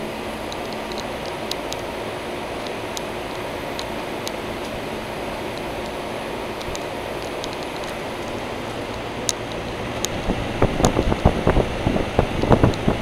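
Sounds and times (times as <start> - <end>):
air conditioner fan rushing: 0.0 - 13.0.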